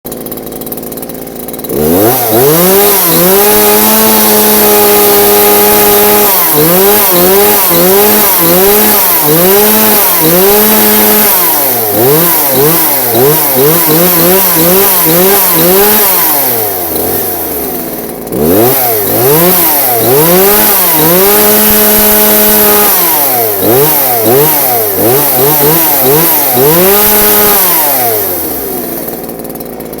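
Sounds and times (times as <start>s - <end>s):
chainsaw engine revving: 0.1s - 30.0s.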